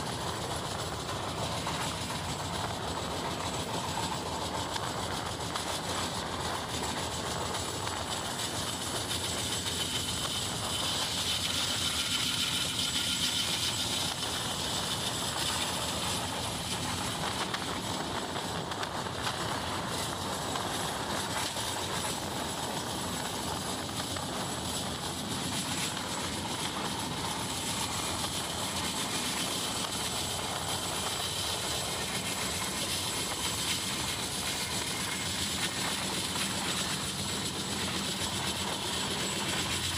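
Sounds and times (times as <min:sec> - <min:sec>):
rush of wind: 0:00.0 - 0:39.9
train wheels rolling: 0:00.0 - 0:39.9.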